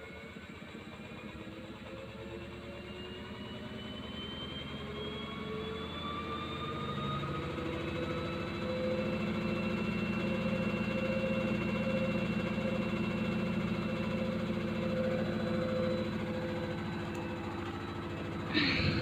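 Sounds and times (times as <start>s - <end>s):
washing machine spinning: 0.1s - 19.0s.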